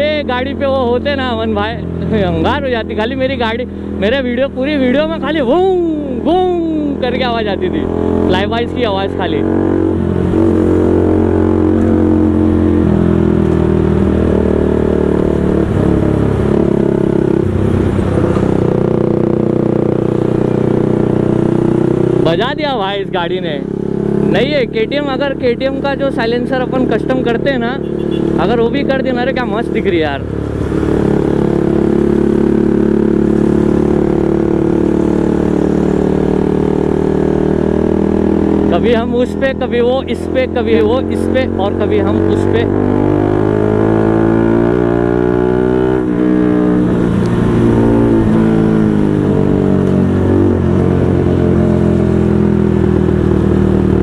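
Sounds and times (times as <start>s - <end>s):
motorcycle engines revving: 0.0s - 54.0s
wind and road noise: 0.0s - 54.0s
loud motorcycle exhaust: 7.7s - 22.7s, 23.5s - 29.6s, 30.3s - 54.0s.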